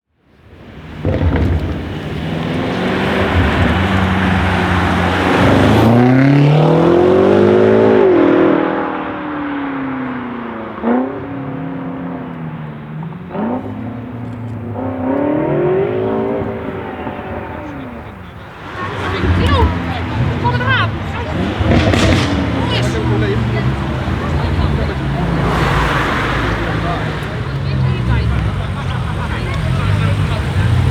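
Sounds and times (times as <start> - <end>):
car engine revving: 0.5 - 30.9
exhaust pops: 0.7 - 7.6, 10.6 - 30.9.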